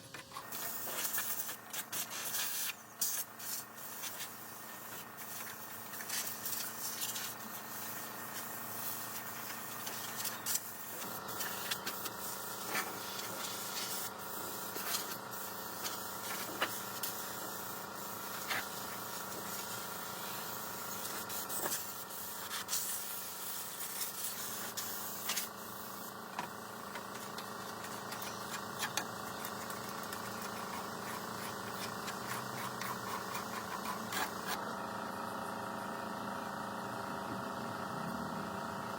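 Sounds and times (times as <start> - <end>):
workshop machine humming: 2.7 - 38.9.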